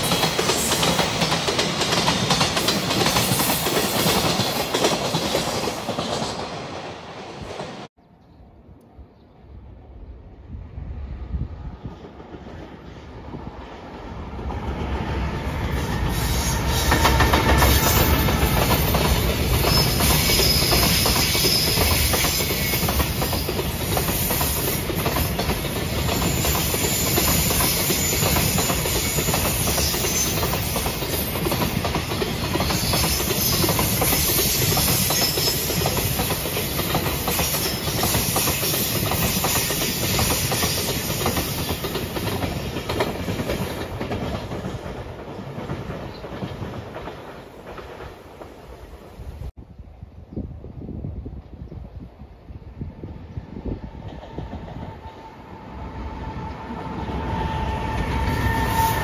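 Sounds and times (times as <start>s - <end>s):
freight train passing: 0.0s - 7.9s, 8.5s - 59.0s.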